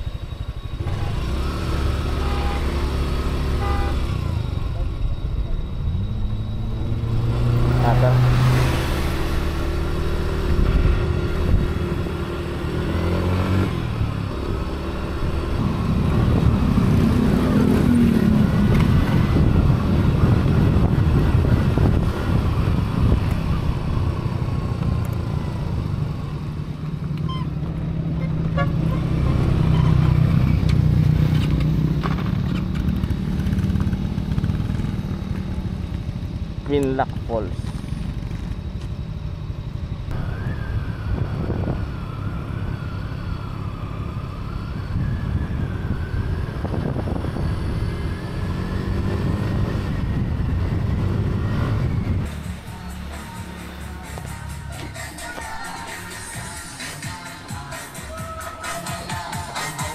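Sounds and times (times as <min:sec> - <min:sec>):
motorcycle engine running: 0:00.0 - 0:48.6.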